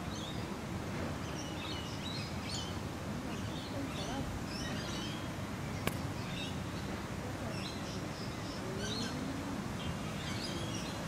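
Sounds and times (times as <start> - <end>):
small birds chirping: 0.0 - 0.6, 1.2 - 11.0
low outdoor background noise: 0.0 - 11.0.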